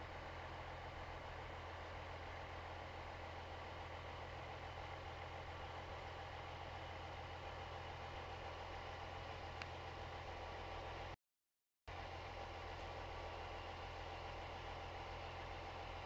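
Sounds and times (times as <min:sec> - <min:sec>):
truck engine idling: 0:00.0 - 0:11.2, 0:11.9 - 0:16.0.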